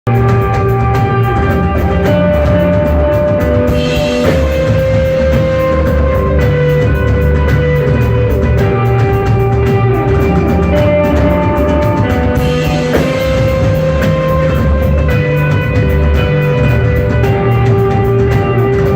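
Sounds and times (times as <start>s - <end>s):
bass guitar: 0.0s - 18.9s
drum kit beat: 0.1s - 18.9s
electric guitar long notes: 0.1s - 18.9s.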